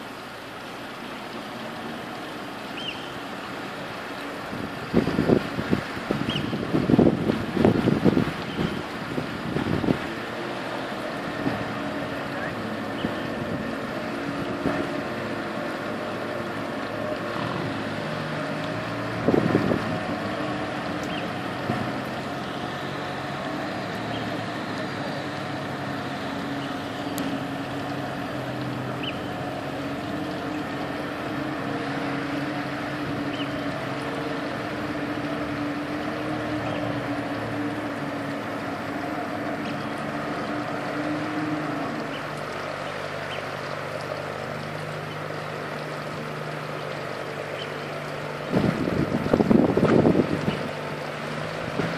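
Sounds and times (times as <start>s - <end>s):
diesel tractor engine droning: 0.0s - 51.9s.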